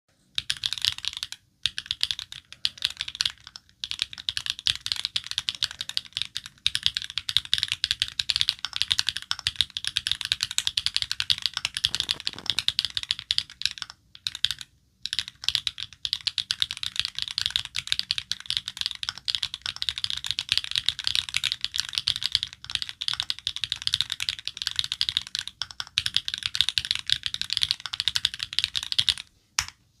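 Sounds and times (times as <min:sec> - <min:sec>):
mechanical keyboard typing: 0:00.4 - 0:29.7.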